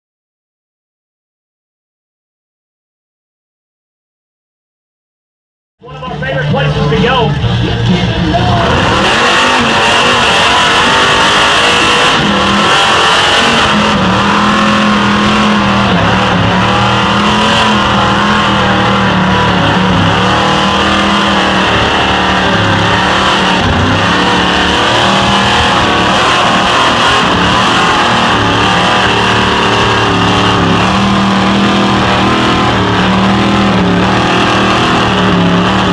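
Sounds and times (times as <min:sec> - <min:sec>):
truck engine revving high: 0:05.8 - 0:35.9.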